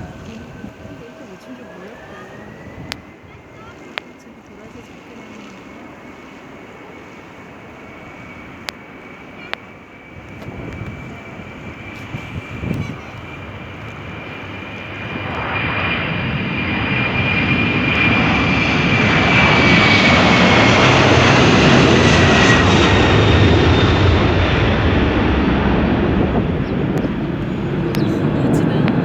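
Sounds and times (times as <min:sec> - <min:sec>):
jet airliner passing: 0:00.0 - 0:29.0.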